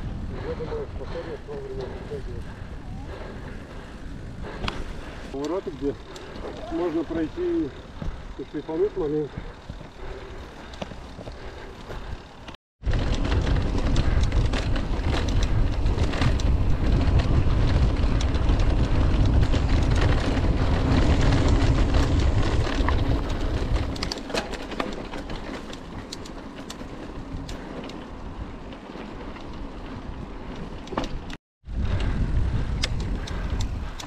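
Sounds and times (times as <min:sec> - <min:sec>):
wind rumble on microphone: 0:00.0 - 0:08.4, 0:11.1 - 0:24.3, 0:25.0 - 0:34.0
bike tyre noise on dirt: 0:00.0 - 0:34.0
bike clicks and rattles: 0:00.1 - 0:34.0.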